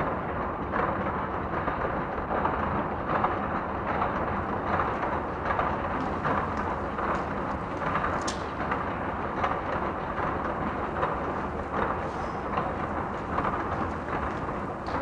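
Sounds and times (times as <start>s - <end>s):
rumbling subway train machinery: 0.0s - 15.0s.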